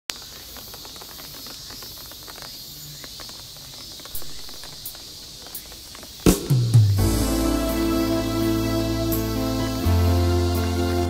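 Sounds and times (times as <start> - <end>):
light rain hissing: 0.1 - 11.0
raindrops pattering and dripping: 0.1 - 11.0.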